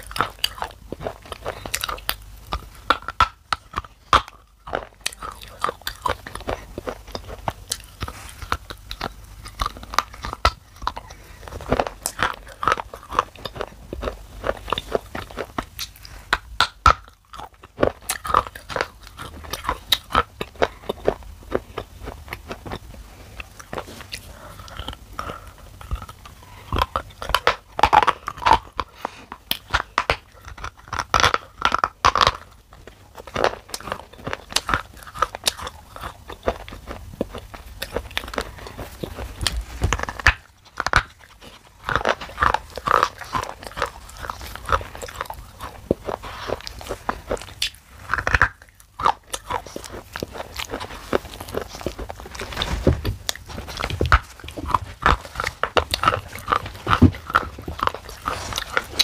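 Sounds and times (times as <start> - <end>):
person chewing clay crunching: 0.0 - 59.0.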